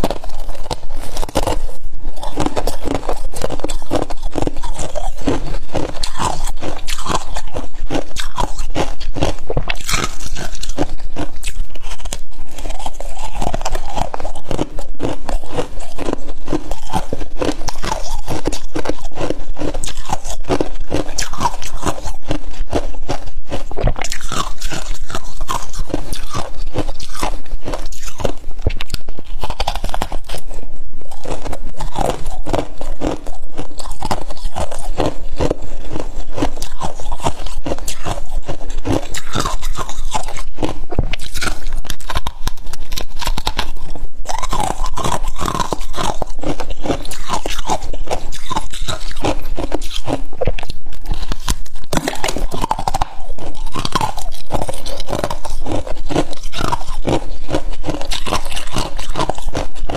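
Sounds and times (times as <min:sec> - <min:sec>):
ice crunching while chewing: 0:00.0 - 0:59.9.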